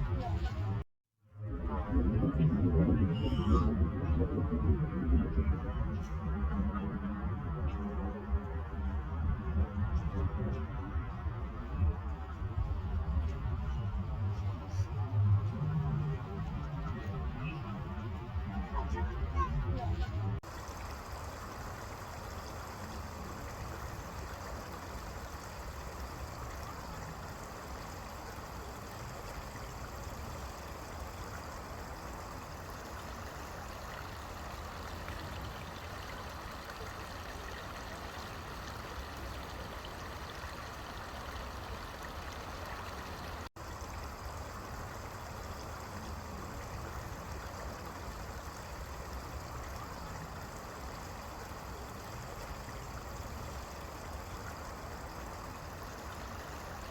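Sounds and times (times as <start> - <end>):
stream running: 7.2 - 56.9.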